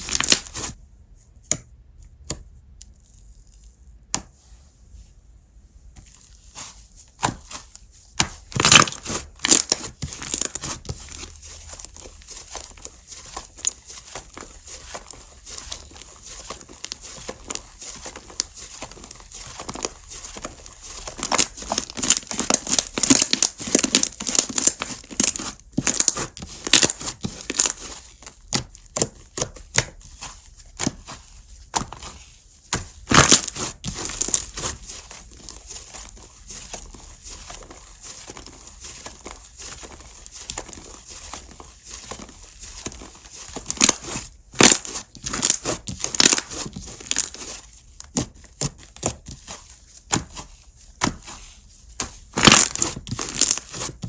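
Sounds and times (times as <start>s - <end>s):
slime squished by hand: 0.0s - 0.8s, 6.0s - 54.0s.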